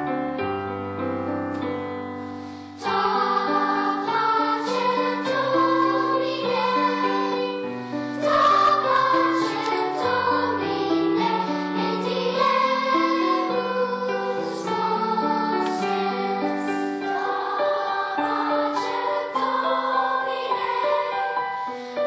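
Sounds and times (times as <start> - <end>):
children's choir singing: 2.6 - 22.0.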